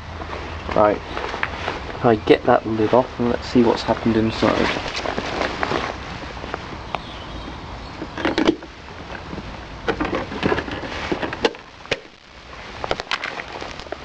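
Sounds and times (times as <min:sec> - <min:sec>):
steady low rumbling: 0:00.0 - 0:14.0.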